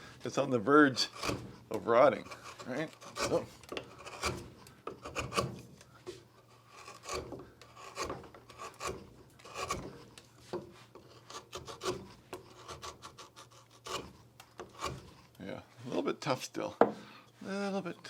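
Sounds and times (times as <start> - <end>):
carving tool scraping wood: 0.0 - 15.4.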